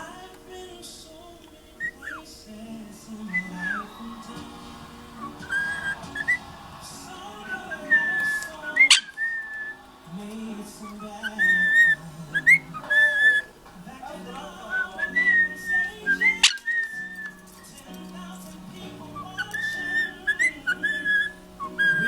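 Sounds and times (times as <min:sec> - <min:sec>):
parrot whistling: 0:02.9 - 0:22.0.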